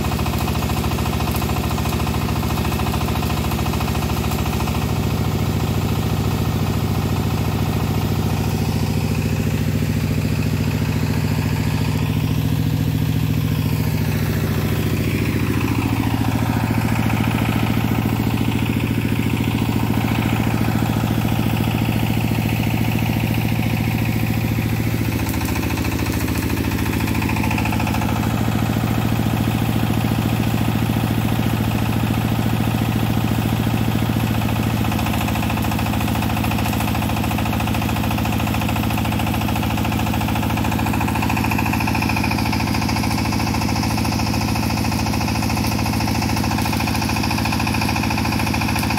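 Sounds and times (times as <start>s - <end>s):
portable generator running: 0.0s - 48.9s.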